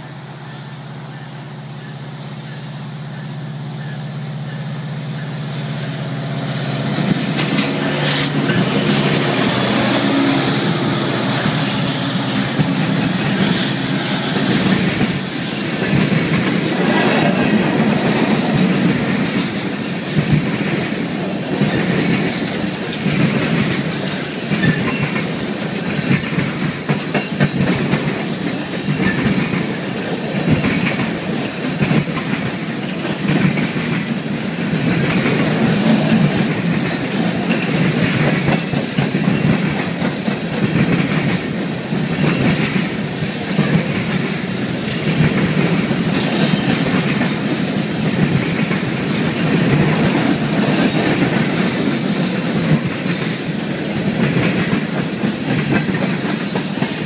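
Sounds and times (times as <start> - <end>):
diesel locomotive engine drone: 0.0 - 57.0
train wheels clattering on rail joints: 2.5 - 57.0.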